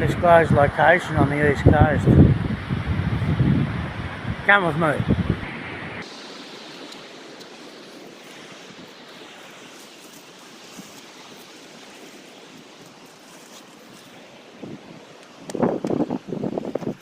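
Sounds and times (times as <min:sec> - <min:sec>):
ocean surf: 0:00.0 - 0:17.0.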